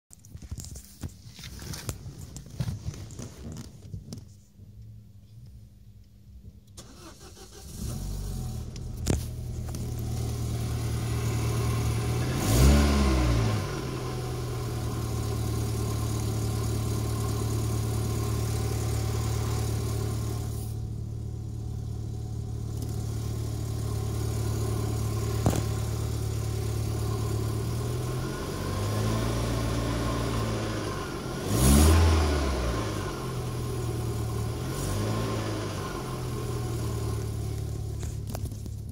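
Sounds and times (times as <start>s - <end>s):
car engine idling and revving: 1.4s - 38.9s.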